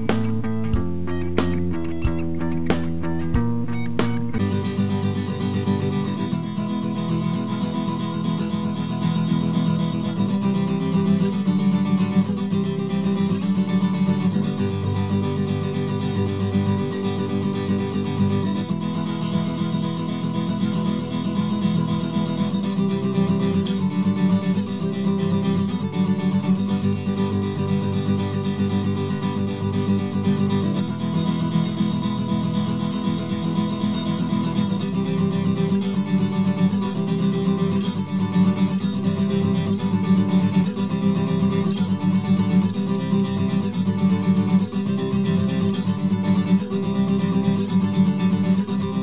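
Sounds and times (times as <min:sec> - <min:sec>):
strummed acoustic guitar: 0:00.0 - 0:49.0.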